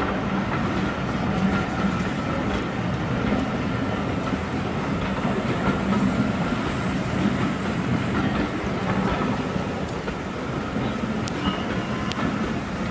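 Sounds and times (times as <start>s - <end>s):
steam train running: 0.0s - 12.9s
wheels clattering over rails: 0.0s - 12.9s.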